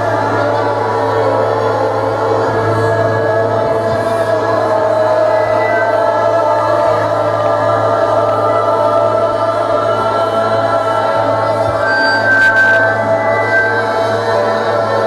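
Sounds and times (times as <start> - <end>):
group of voices singing: 0.0 - 15.0
sustained chord: 0.0 - 15.0.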